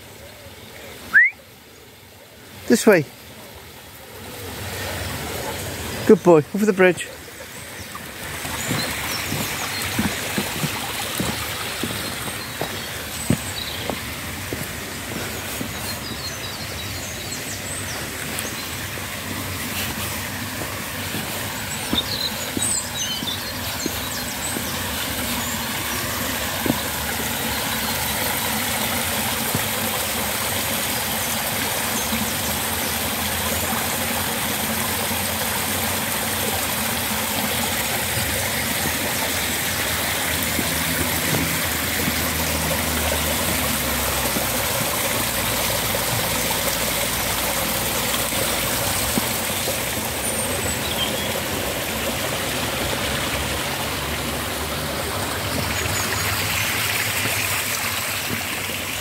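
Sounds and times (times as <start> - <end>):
water trickling over rocks: 0.0 - 59.0.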